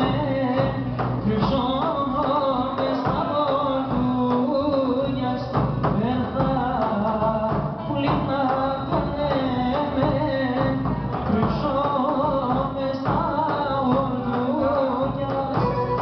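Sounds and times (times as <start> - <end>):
bass drum beating: 0.0 - 16.0
man singing: 0.0 - 16.0.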